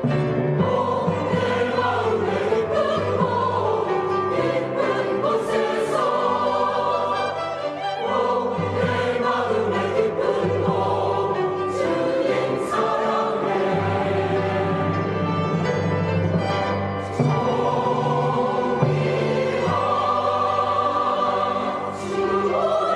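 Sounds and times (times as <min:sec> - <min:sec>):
choir singing: 0:00.0 - 0:22.9
low accompaniment: 0:00.0 - 0:22.9.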